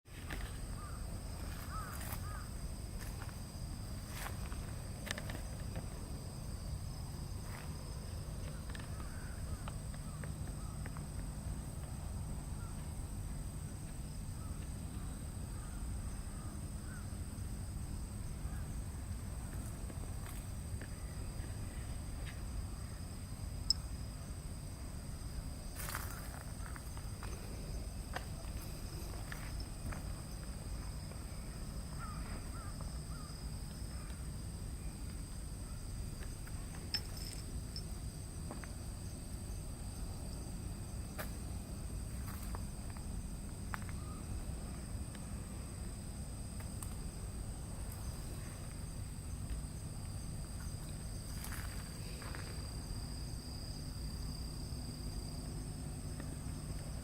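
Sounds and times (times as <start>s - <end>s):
insects trilling: 0.1s - 57.0s.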